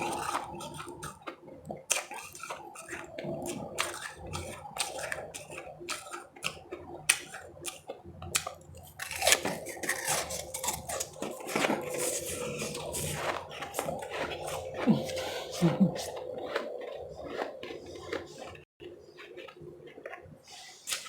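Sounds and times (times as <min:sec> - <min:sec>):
ice chips being chewed: 0:00.0 - 0:21.0.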